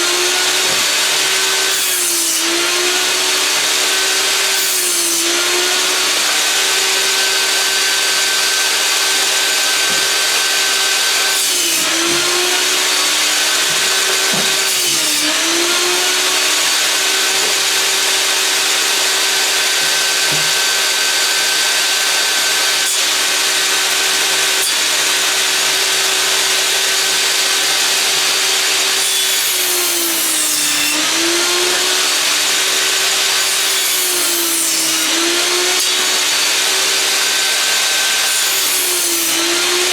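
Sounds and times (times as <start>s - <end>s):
table saw cutting boards: 0.0s - 39.9s.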